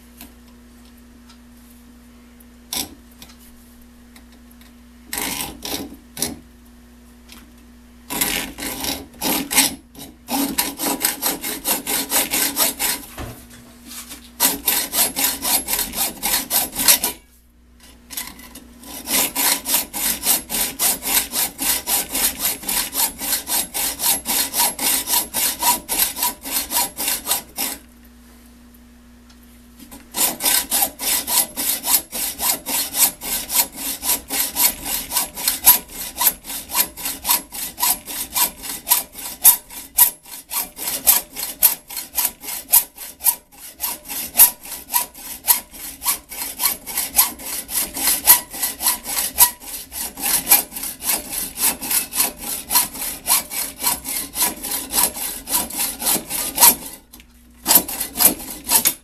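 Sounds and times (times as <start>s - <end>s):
hacksaw cutting metal: 2.7s - 2.9s, 5.1s - 6.4s, 8.1s - 13.3s, 14.4s - 17.2s, 18.1s - 27.8s, 29.9s - 59.0s.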